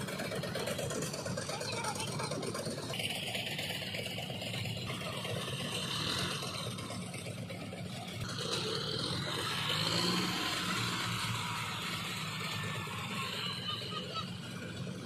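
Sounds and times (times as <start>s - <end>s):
combine harvester engine running: 0.0s - 15.0s
tractor engine pulling a trolley: 0.0s - 15.0s.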